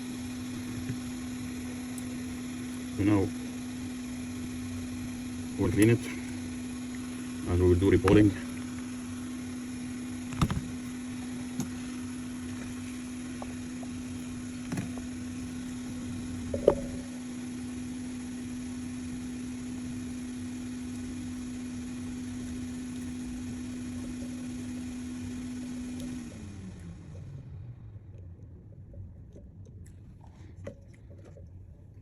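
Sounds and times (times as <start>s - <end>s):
hot-air blower humming and hissing: 0.0s - 28.1s.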